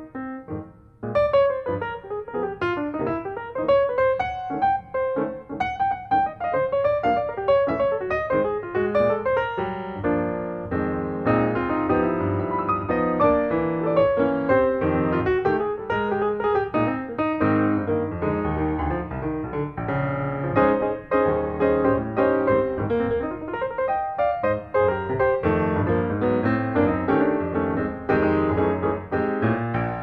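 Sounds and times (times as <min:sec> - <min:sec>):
lively piano melody: 0:00.0 - 0:30.0.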